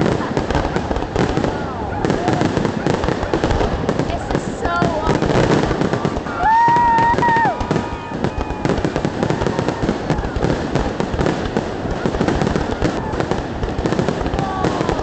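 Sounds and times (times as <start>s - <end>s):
crowd voices: 0.0s - 15.0s
fireworks crackling and popping: 0.0s - 15.0s.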